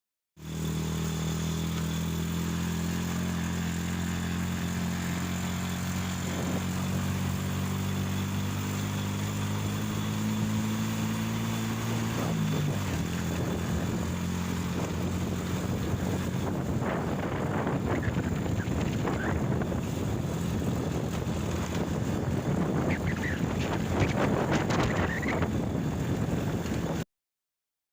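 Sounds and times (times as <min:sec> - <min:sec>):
engine hum: 0:00.4 - 0:27.0.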